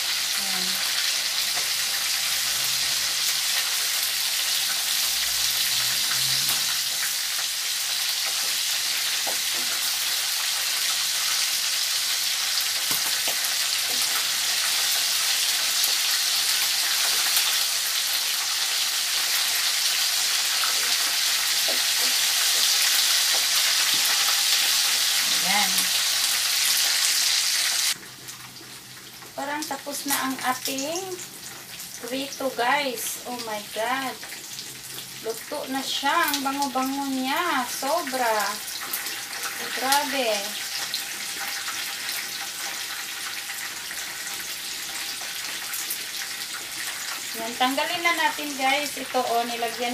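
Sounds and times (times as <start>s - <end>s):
chicken sizzling in oil: 0.0s - 49.9s.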